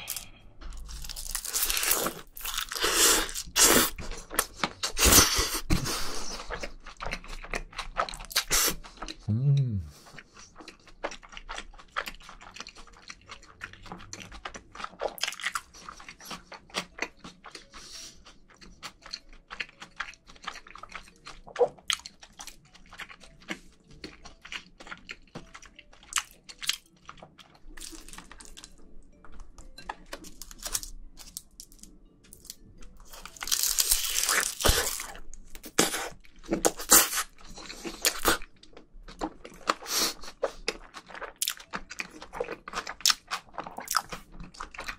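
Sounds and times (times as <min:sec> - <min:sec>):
person chewing with wet clicks: 0:06.4 - 0:09.3, 0:10.1 - 0:44.9.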